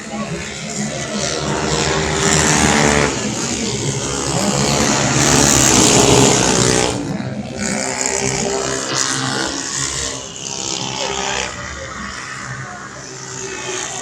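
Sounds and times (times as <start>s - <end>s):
scooter engines revving past: 0.0s - 14.0s.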